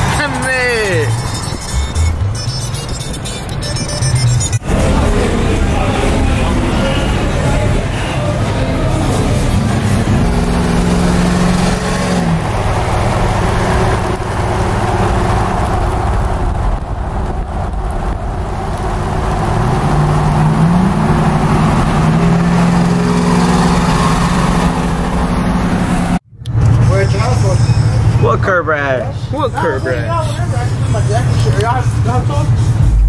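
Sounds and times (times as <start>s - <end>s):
truck engines driving past: 0.0s - 33.0s.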